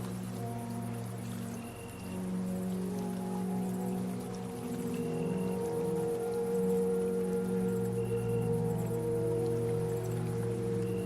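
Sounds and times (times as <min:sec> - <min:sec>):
ambient drone music: 0:00.0 - 0:11.0
faint steady hiss: 0:00.0 - 0:11.0.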